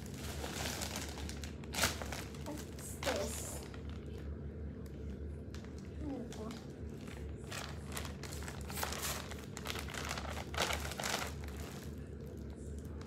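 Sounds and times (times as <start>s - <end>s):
plastic packaging crinkling: 0.0s - 4.3s, 5.4s - 13.0s.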